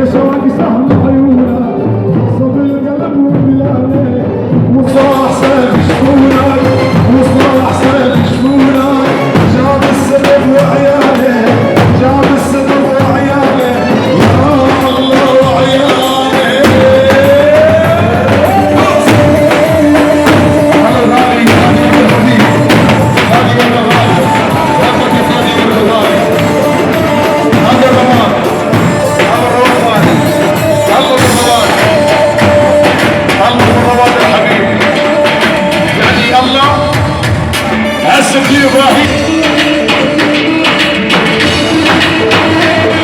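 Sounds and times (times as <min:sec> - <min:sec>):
ornamented melody line: 0:00.0 - 0:43.0
steady drum beat: 0:00.0 - 0:43.0.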